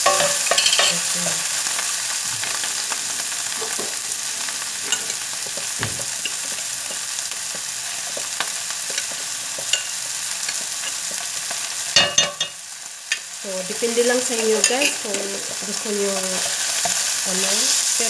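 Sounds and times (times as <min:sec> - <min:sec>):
food sizzling in a wok: 0:00.0 - 0:18.0.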